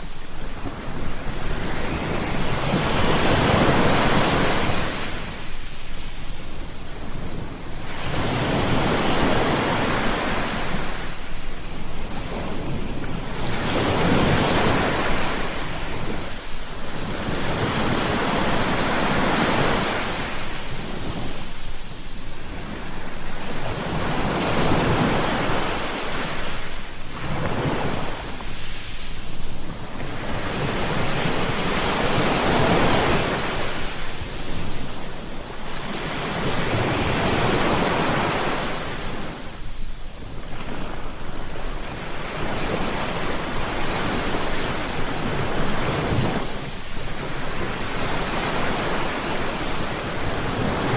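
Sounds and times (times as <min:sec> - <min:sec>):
sea waves washing onto shore: 0:00.0 - 0:50.9.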